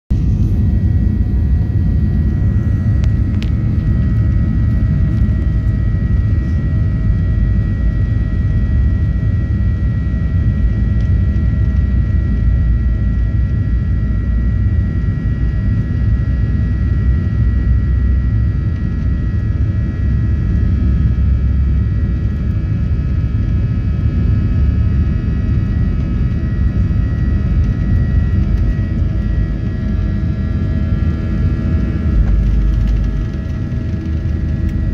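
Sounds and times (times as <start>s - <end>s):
jet engines whining: 0.1s - 34.9s
low cabin rumble: 0.1s - 34.9s.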